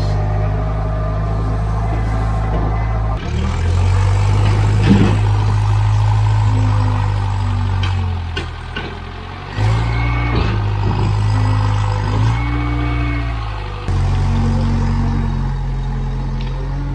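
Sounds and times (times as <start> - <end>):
loader engine running under load: 0.0 - 16.9.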